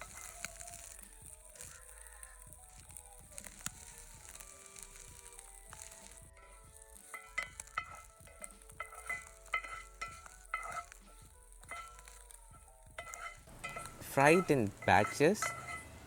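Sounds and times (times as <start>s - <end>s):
clinks and scrapes against pan: 0.0s - 16.0s
oysters sizzling in a pan: 0.0s - 16.0s.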